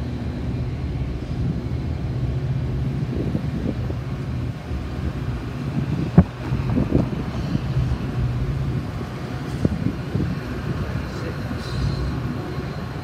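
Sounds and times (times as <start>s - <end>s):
low engine hum: 0.0s - 13.0s
traffic rumble: 0.0s - 13.0s.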